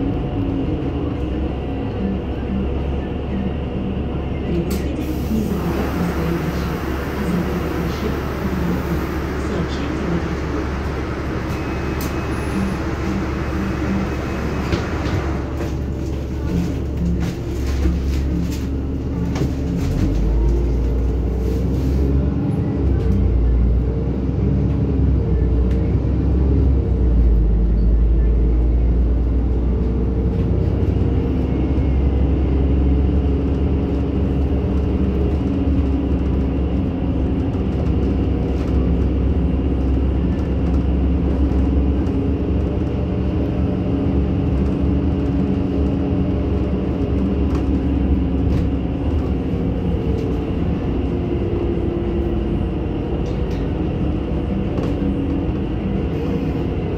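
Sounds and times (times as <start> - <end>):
bus engine and road rumble: 0.0 - 56.9.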